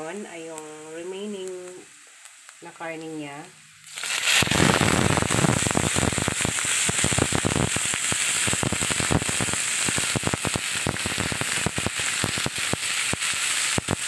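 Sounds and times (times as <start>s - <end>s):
fat popping and crackling: 0.0s - 14.0s
pork sizzling in fat: 0.0s - 14.0s.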